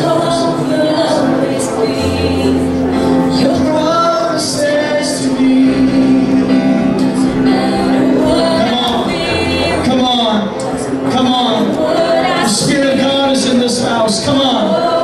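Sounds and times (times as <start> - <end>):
worship music with singing: 0.0 - 15.0.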